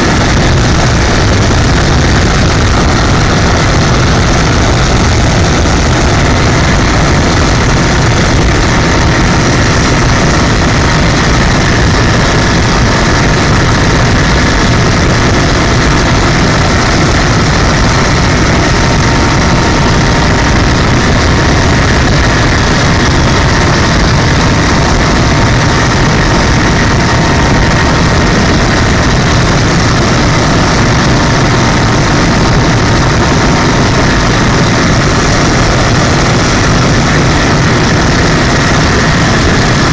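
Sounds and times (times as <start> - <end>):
faint steady whine: 0.0 - 39.9
helicopter engine and rotor noise: 0.0 - 39.9.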